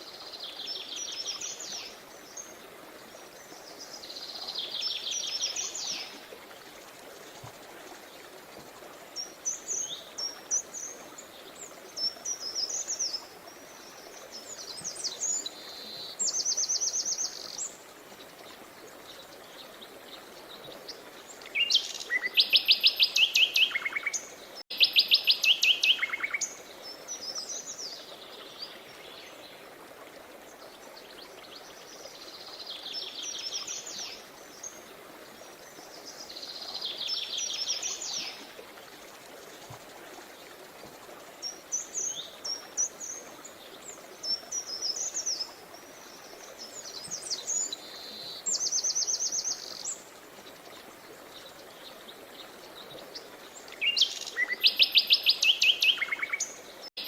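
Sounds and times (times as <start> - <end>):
songbirds singing: 0.0 - 29.7, 30.5 - 57.0
flowing river water: 0.0 - 57.0.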